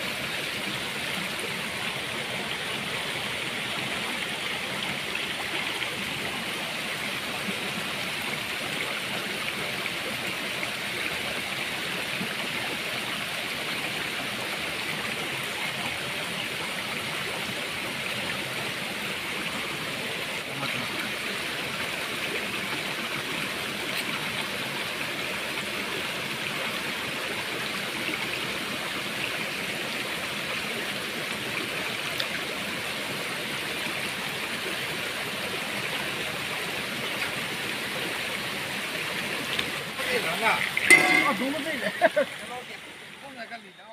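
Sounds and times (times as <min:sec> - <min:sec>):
stream running over stones: 0:00.0 - 0:43.9.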